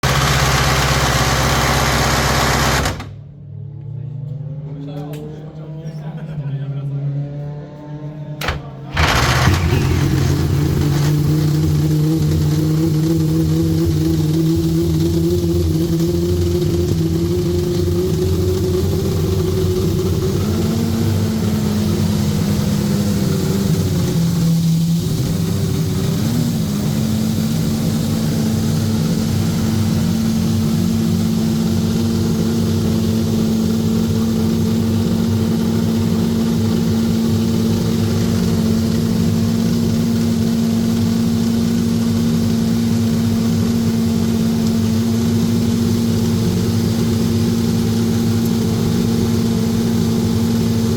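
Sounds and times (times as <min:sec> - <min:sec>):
racing car engine idling: 0:08.0 - 0:50.9.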